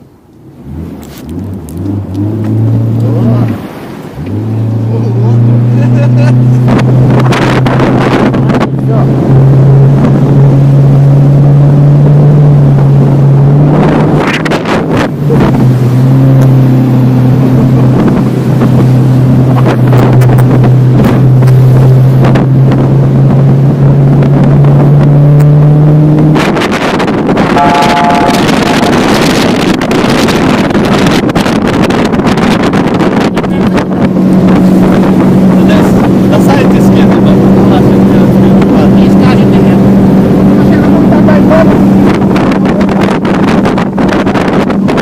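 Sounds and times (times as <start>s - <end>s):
motorboat engine droning: 0.0s - 45.0s
wind buffeting microphone: 0.0s - 45.0s.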